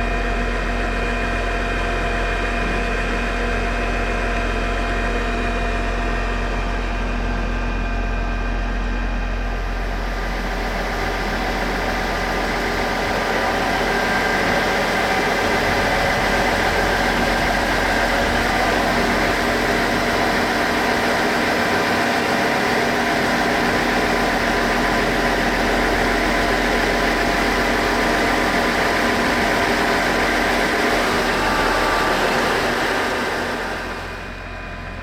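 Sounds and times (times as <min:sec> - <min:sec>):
diesel train engines idling: 0:00.0 - 0:35.0.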